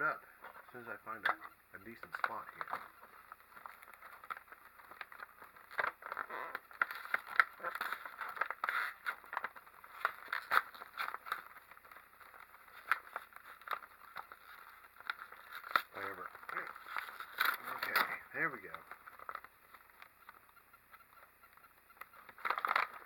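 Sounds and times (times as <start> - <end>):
plastic snack bag crinkling: 1.8 - 20.5, 22.0 - 23.0.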